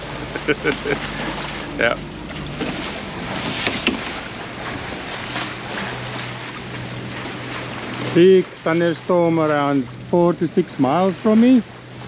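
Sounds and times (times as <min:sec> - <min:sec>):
diesel engine drone: 0:00.0 - 0:12.0
wind and water rushing: 0:00.0 - 0:12.0.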